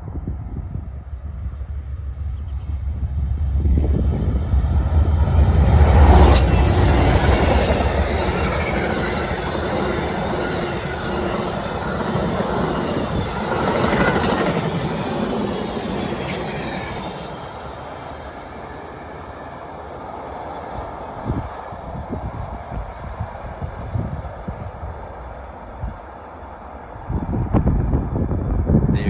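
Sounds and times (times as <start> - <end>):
train cars rolling past: 0.0 - 28.5.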